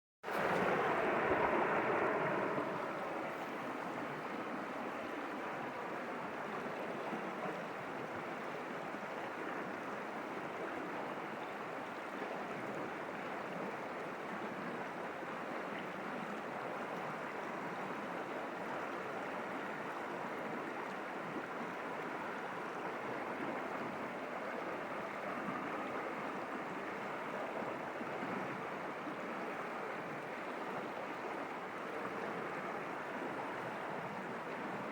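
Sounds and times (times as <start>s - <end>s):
stream gurgling over rocks: 0.2s - 34.9s.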